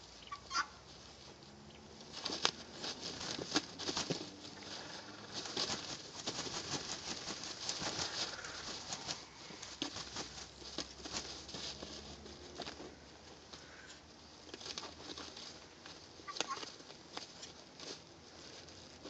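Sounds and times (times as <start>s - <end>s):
wing feathers flapping and rustling: 0.0s - 19.0s.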